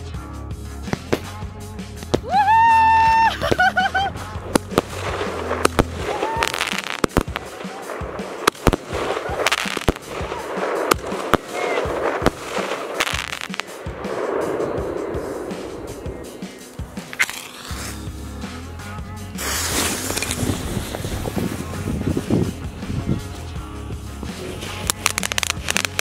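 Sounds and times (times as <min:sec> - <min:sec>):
fireworks bangs and crackles: 0:00.8 - 0:26.0.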